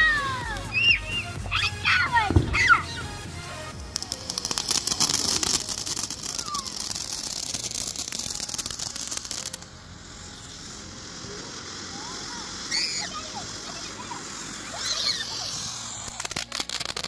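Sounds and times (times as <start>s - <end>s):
firework crackling hiss: 0.0s - 17.0s.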